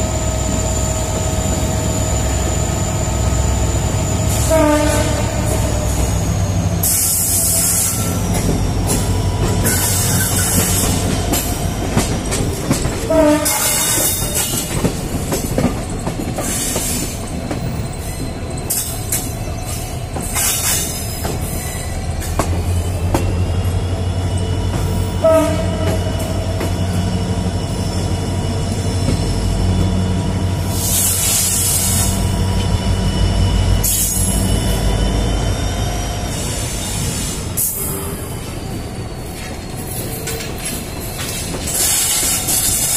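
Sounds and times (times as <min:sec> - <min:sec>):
locomotive engine humming: 0:00.0 - 0:42.9.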